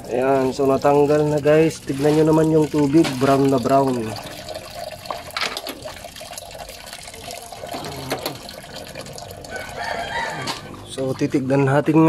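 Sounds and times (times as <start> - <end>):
coolant pouring into a basin: 0.0 - 11.8.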